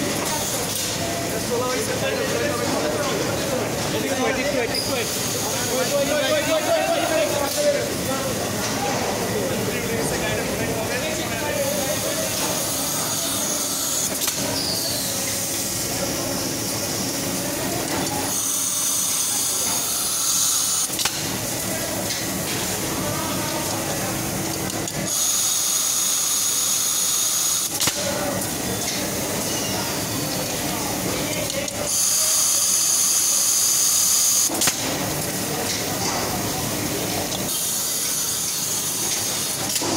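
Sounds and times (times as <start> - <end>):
machinery running with hiss: 3.2 - 39.9.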